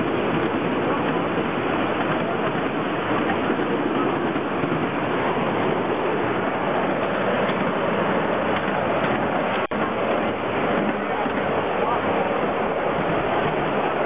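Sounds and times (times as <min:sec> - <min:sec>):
train in motion: 0:00.0 - 0:14.0.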